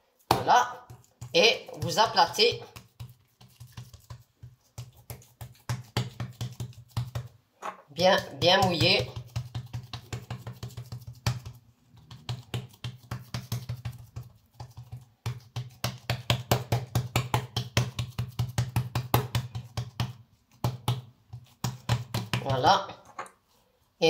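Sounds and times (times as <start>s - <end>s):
hands patting dough on wood: 0.2s - 7.4s, 8.0s - 22.8s.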